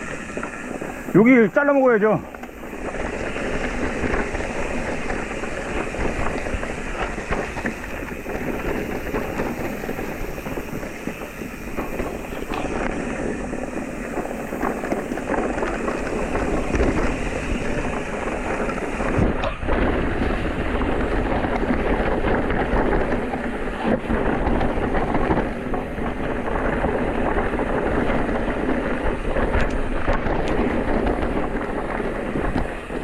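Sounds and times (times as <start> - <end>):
bike rattling and clicking: 0.0 - 33.0
bike tyres crunching on stones: 0.0 - 33.0.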